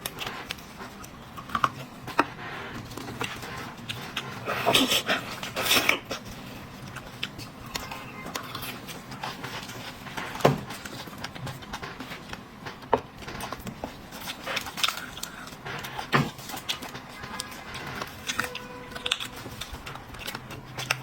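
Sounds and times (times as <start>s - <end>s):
person chewing: 0.1s - 12.5s, 13.4s - 21.0s.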